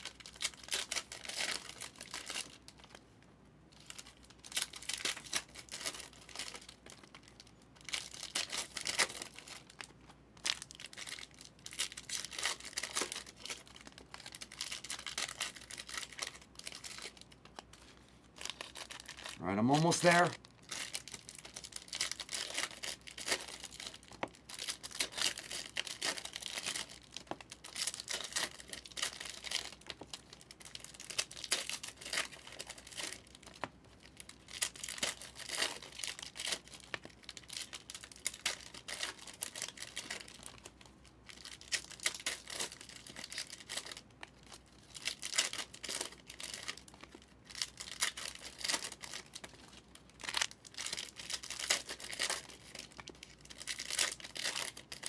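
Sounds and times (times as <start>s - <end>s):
plastic wrapping crinkling and tearing: 0.0s - 55.0s.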